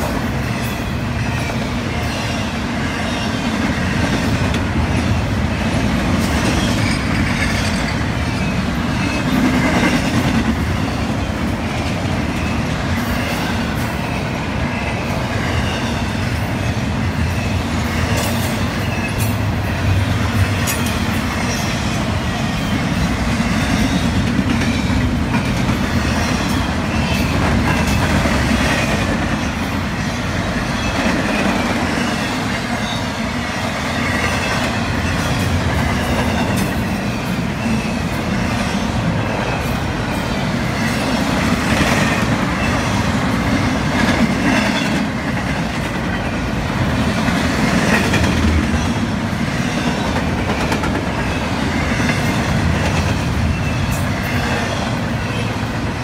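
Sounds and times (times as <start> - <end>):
steel wheels running on rails: 0.0 - 56.0.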